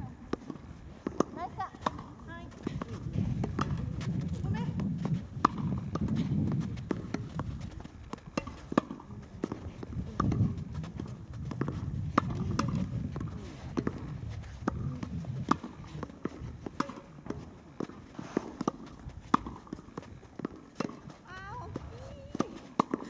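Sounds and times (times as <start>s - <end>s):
racket striking tennis ball: 0.0s - 23.0s
tennis ball bouncing on court: 0.0s - 23.0s.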